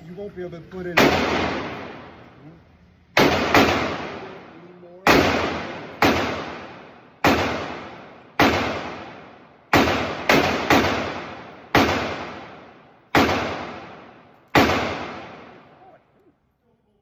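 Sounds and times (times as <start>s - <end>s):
echoing gunshots: 0.9s - 2.4s, 3.1s - 16.0s.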